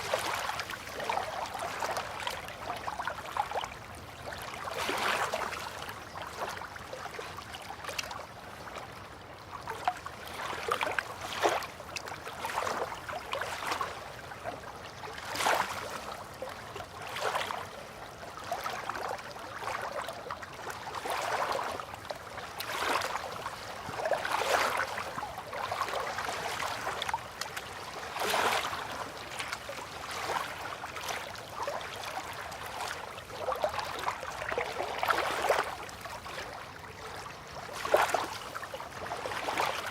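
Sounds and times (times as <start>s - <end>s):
river water lapping against bank: 0.0s - 39.9s.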